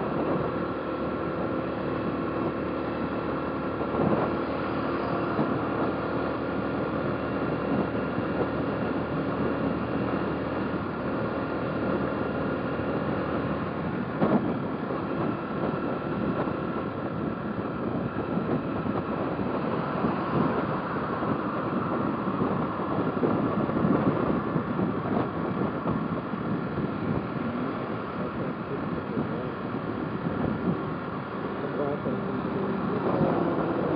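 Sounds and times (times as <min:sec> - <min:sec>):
wind noise on microphone: 0:00.0 - 0:33.9.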